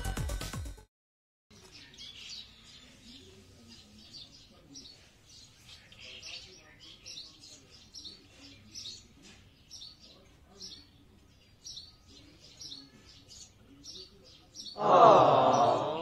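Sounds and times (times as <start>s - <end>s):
birds chirping: 1.5s - 16.0s.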